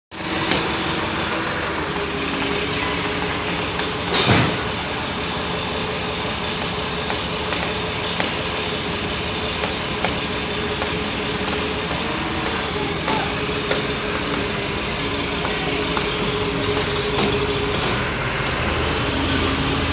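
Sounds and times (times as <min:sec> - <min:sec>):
forklift engine running: 0:00.1 - 0:19.9.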